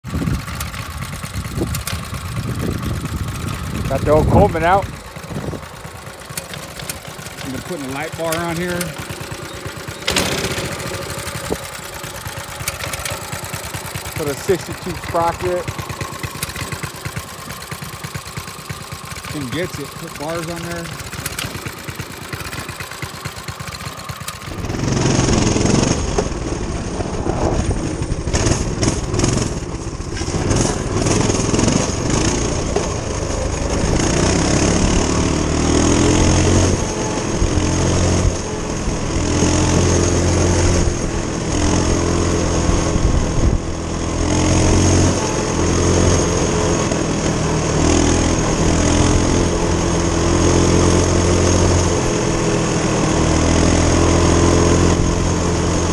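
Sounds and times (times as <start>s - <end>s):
minibike engine running: 0.0s - 55.9s.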